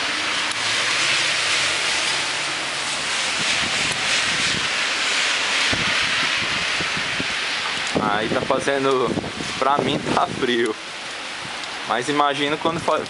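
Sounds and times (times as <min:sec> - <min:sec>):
hiss of falling sleet: 0:00.0 - 0:13.0
wind buffeting microphone: 0:01.4 - 0:13.0.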